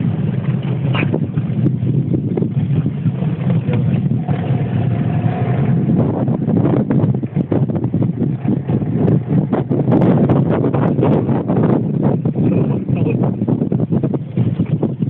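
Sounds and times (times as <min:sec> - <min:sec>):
boat motor humming: 0:00.0 - 0:15.0
wind noise on microphone: 0:00.0 - 0:15.0.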